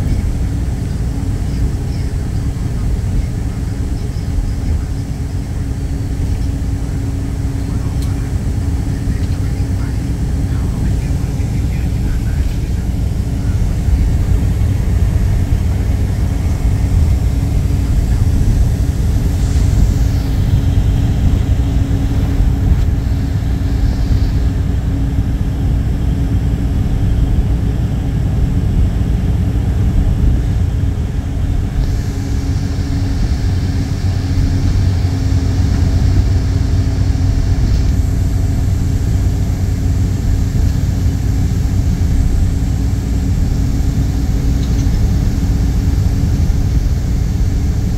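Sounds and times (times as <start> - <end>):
constant hum: 0.0 - 47.9
train rumble inside carriage: 0.0 - 47.9.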